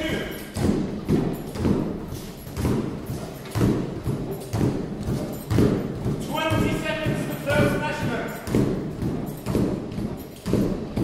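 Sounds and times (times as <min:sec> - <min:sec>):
roller skis thudding on treadmill: 0:00.0 - 0:11.0.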